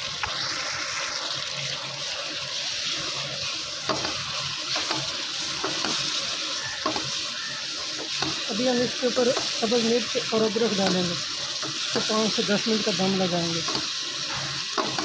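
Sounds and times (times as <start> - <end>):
masala sizzling in a frying pan: 0.0 - 15.0.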